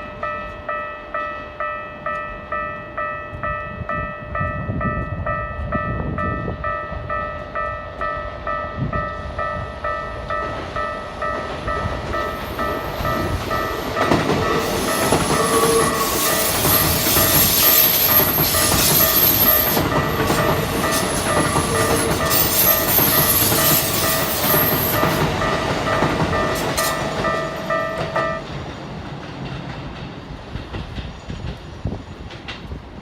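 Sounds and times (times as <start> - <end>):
level crossing bell ringing: 0.0 - 28.5
train wheels rattling on rails: 2.0 - 33.0.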